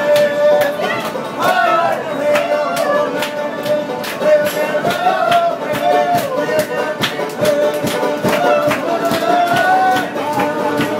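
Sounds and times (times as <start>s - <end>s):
banjo music: 0.0s - 10.9s.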